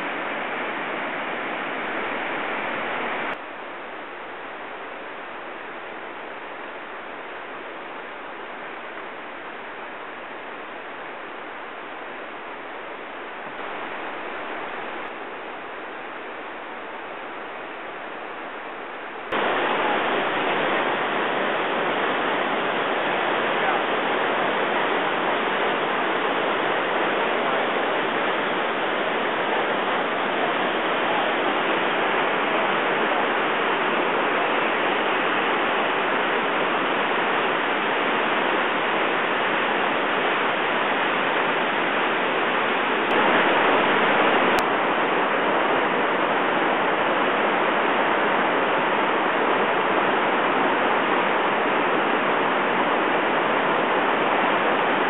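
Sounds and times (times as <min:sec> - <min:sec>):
waterfall and rapids roaring: 0:00.0 - 0:55.0.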